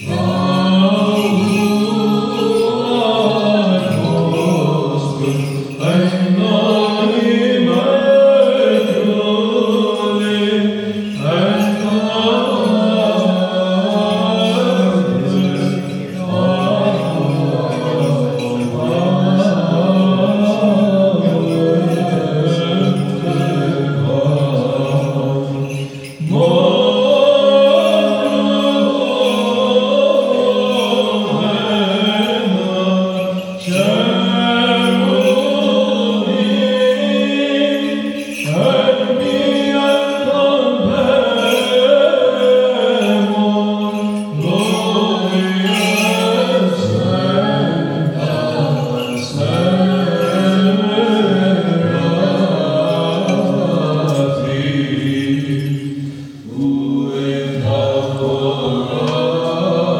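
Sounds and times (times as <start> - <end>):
voices chanting: 0.0 - 59.9.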